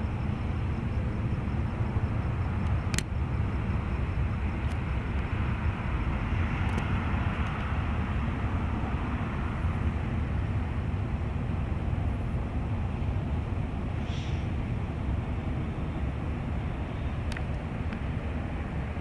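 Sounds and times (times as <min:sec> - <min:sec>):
jet airliner distant rumble: 0:00.0 - 0:19.0.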